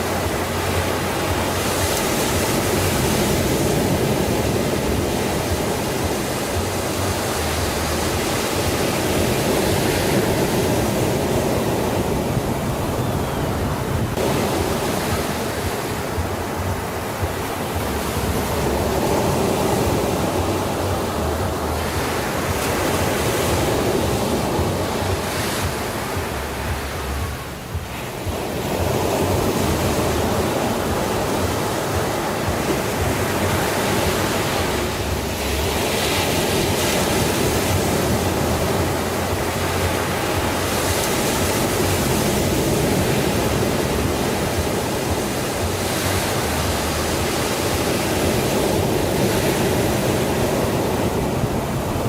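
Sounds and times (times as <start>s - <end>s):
sea surf washing in: 0.0s - 52.0s.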